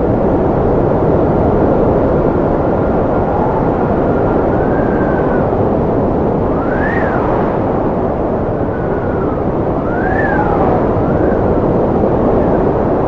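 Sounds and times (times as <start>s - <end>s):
strong wind howling: 0.0s - 13.0s.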